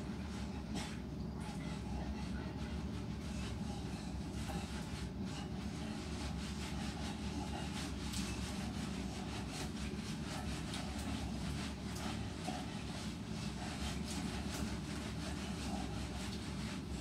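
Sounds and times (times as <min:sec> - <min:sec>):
hands rubbing wet fur: 0:00.0 - 0:17.0
steady low hum: 0:00.0 - 0:17.0.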